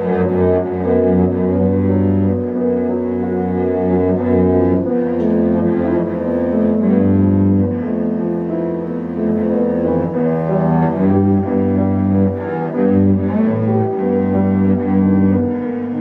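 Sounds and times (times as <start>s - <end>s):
bowed cello notes: 0.0s - 16.0s
piano accompaniment: 0.0s - 16.0s.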